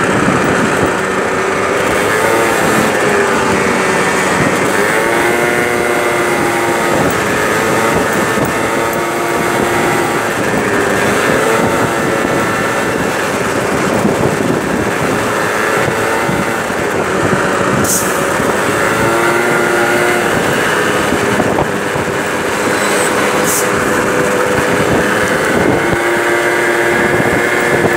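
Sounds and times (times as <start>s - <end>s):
scooter engine running: 0.0s - 27.9s
wind and road noise: 0.0s - 27.9s.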